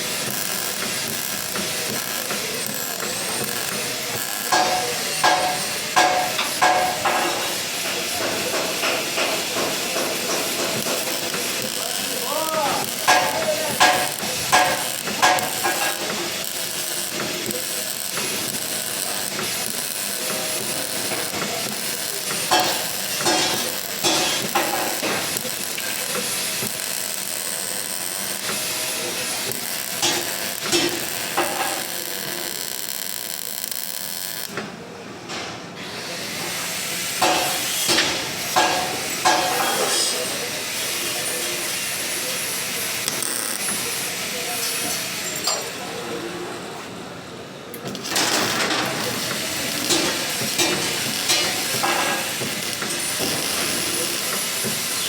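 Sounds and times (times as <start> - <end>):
welding arc crackling and hissing: 0.0 - 34.6, 36.2 - 45.4, 47.9 - 55.0.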